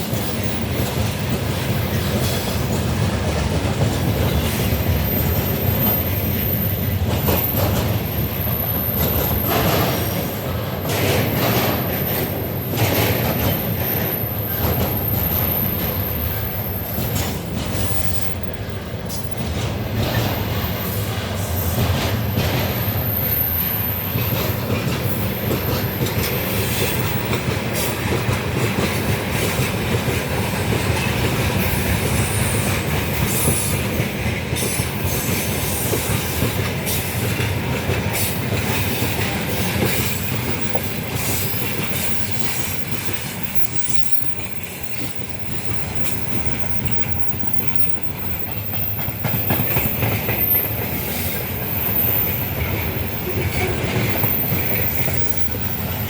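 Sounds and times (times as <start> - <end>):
freight train rolling past: 0.0 - 56.0
train wheel squeal: 0.0 - 56.0
wheels clattering over rail joints: 0.0 - 56.0.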